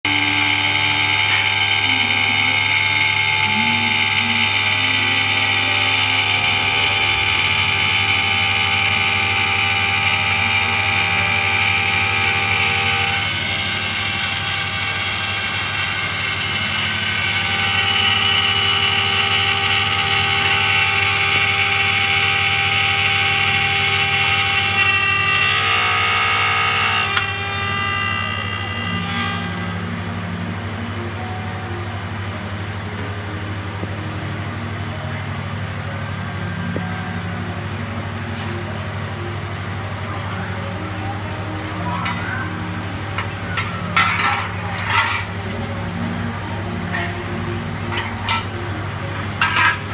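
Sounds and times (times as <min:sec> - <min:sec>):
cnc spindle whining: 0:00.0 - 0:49.9.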